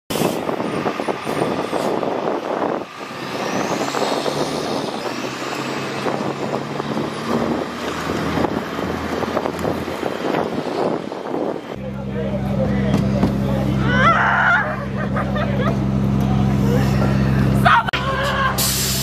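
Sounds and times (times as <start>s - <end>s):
fire engine diesel passing: 0.1s - 19.0s.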